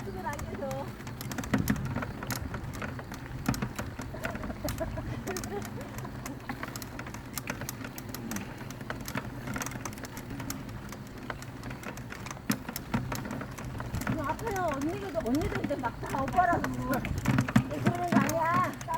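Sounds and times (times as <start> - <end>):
bike clicks and rattles: 0.0 - 18.9
low rolling rumble: 0.0 - 18.9.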